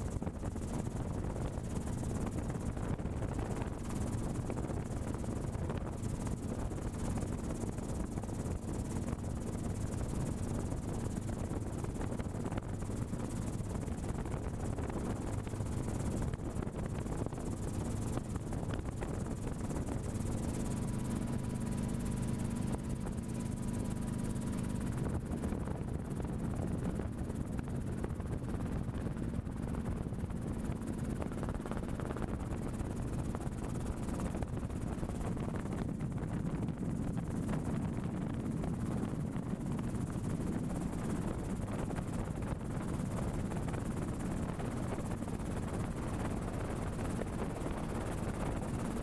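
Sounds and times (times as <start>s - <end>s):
helicopter engine and rotor drone: 0.0s - 49.0s.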